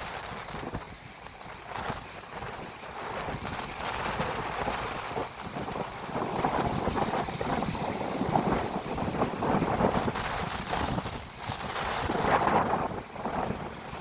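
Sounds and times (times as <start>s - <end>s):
waves breaking on beach: 0.0s - 14.0s
wind buffeting microphone: 0.0s - 14.0s.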